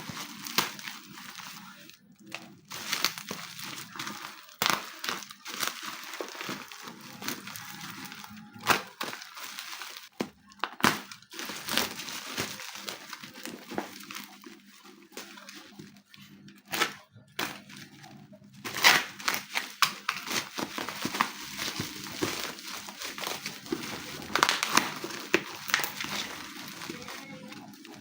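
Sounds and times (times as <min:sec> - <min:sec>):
packaging crinkling and rustling: 0:00.0 - 0:28.0.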